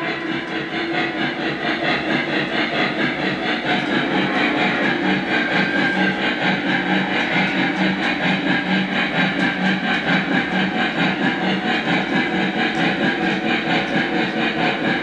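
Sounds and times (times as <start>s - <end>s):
model steam locomotive chuffing: 0.0s - 15.0s
wheels rumbling on track: 0.0s - 15.0s.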